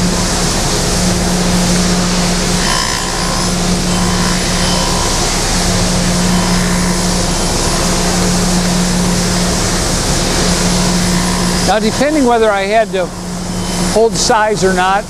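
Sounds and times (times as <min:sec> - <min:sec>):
surface grinder grinding metal: 0:00.0 - 0:14.9.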